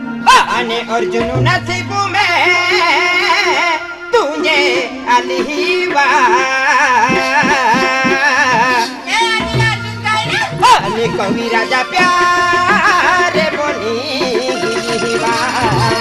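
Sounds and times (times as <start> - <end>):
ornamented folk melody: 0.0 - 16.0
drum strokes: 0.4 - 16.0.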